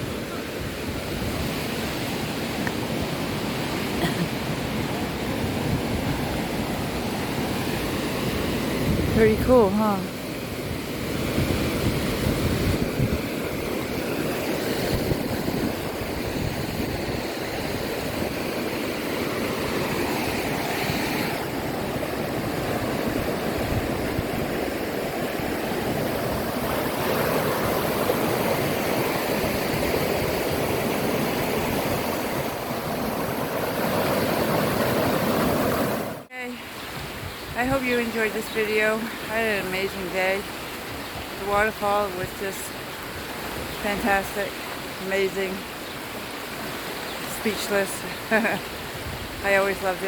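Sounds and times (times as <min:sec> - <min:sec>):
wind rumble on microphone: 0:00.0 - 0:03.8, 0:04.6 - 0:44.5, 0:48.8 - 0:50.0
running water rushing: 0:00.0 - 0:50.0.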